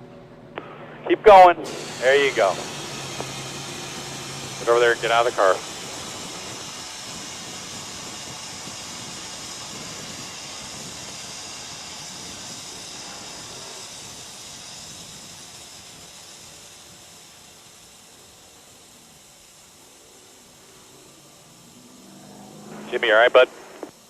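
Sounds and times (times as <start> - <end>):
radio hiss: 0.6 - 24.0.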